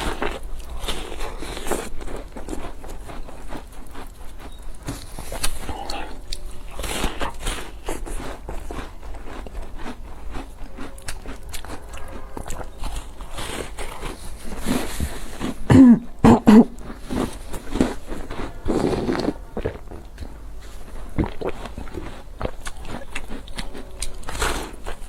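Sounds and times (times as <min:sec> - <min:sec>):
person chewing food: 0:00.0 - 0:25.0.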